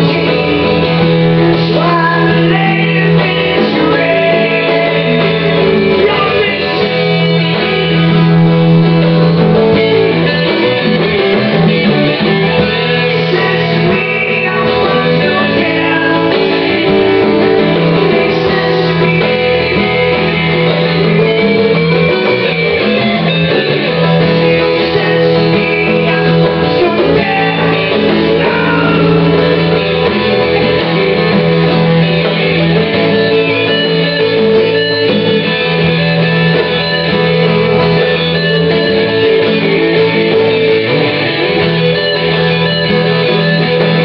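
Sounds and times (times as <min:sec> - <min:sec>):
guitar-led band music: 0:00.0 - 0:44.0.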